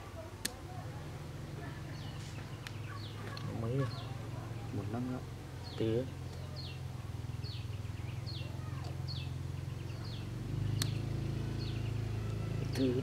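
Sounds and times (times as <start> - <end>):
bird chirping: 1.8 - 13.0.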